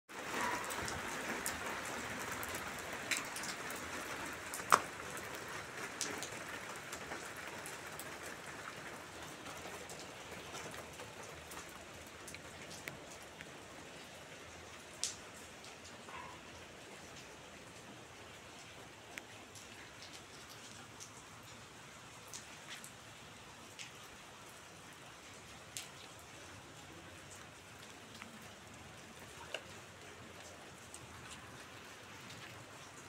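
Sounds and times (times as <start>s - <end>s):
steady rain falling: 0.1s - 33.0s.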